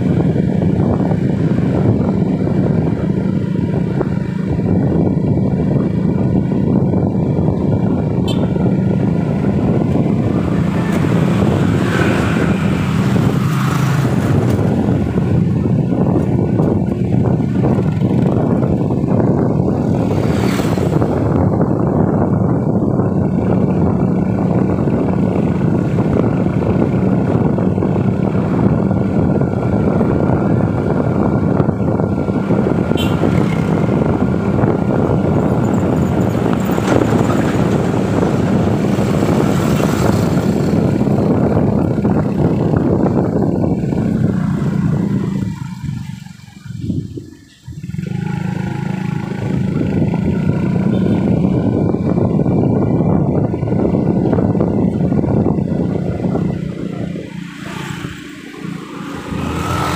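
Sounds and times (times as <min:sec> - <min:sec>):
engine hum: 0:00.0 - 0:59.9
wind and road noise: 0:00.0 - 0:59.9.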